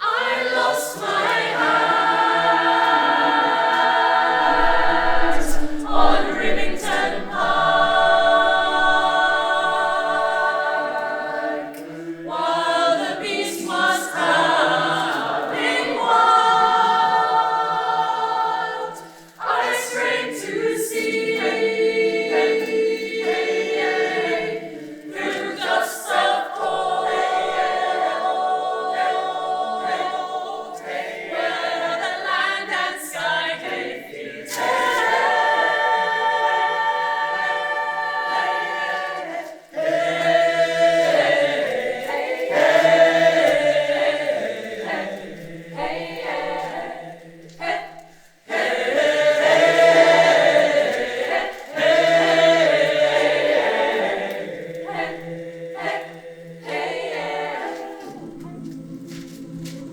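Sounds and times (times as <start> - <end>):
choir singing unaccompanied: 0.0 - 59.9.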